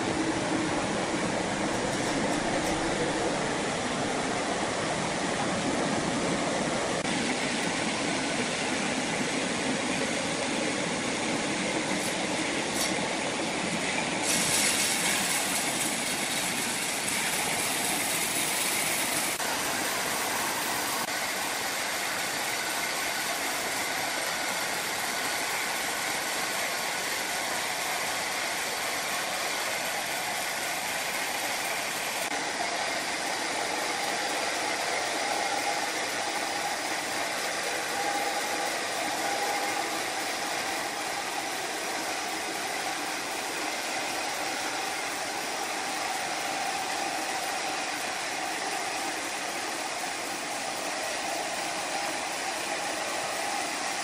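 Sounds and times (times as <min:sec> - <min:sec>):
sawmill machine hum: 0:00.0 - 0:54.0.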